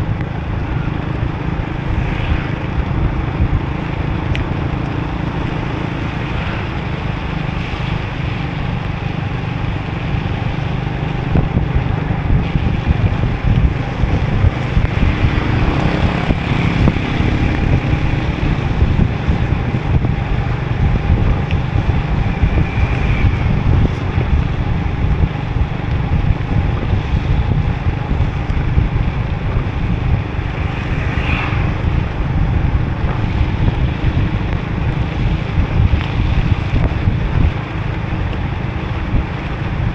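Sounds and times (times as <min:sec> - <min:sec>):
motorbike engine: 0:00.0 - 0:39.9
tyres hissing on wet road: 0:00.0 - 0:39.9
wind rumble on microphone: 0:00.0 - 0:39.9.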